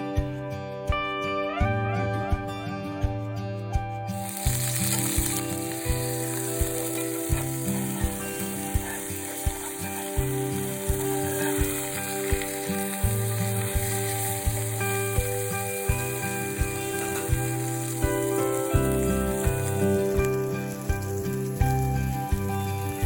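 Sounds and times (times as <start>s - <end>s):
background music with a beat: 0.0s - 23.0s
food sizzling in a pan: 4.1s - 23.0s.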